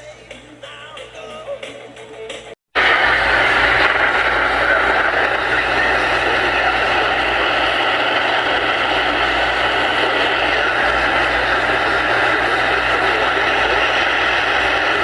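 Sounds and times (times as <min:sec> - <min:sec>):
radio static hiss: 0:02.8 - 0:15.0.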